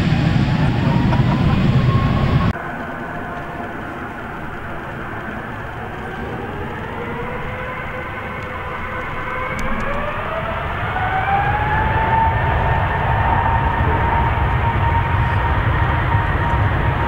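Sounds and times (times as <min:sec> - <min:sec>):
jet engines spooling up: 0:00.0 - 0:17.0.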